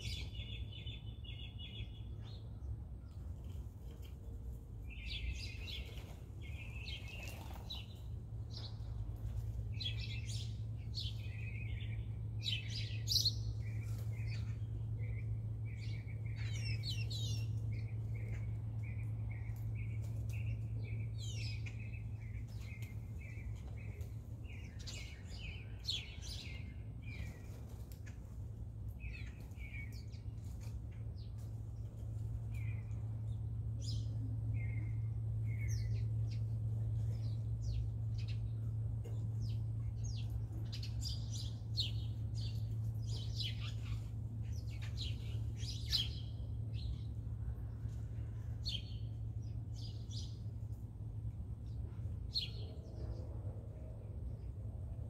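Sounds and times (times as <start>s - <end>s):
small birds chirping: 0.0s - 53.3s
steady low hum: 0.0s - 55.0s.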